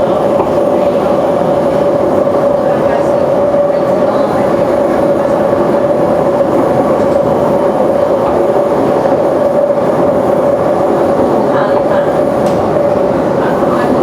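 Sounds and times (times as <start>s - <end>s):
metro train wheels rumbling on rail: 0.0s - 14.0s.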